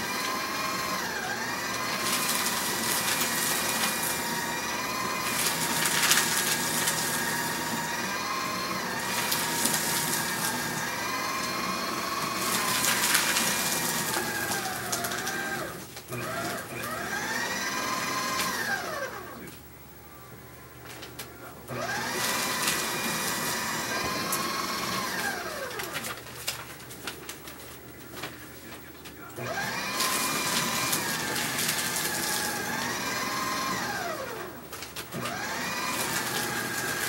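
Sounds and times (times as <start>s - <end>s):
paper crunching being cut: 0.0s - 19.5s, 21.7s - 37.0s
paper shredder motor whine: 0.0s - 19.6s, 20.5s - 37.0s.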